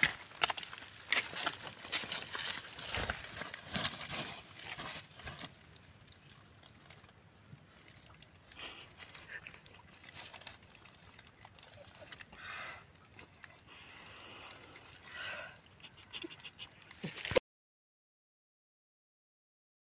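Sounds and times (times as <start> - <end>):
faint outdoor ambience: 0.0 - 17.4.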